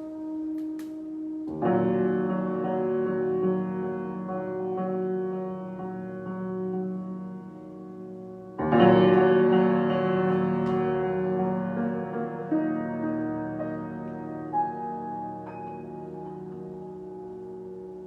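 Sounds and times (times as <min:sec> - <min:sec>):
solo piano: 0:00.0 - 0:18.0.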